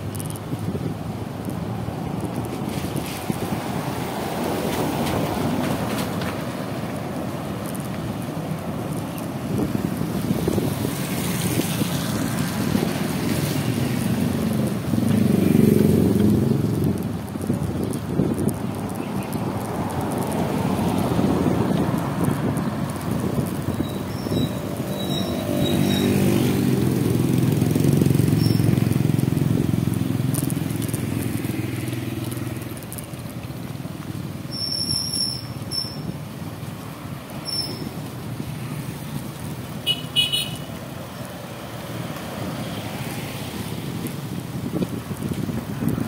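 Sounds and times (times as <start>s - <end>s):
traffic noise: 0.0s - 46.0s.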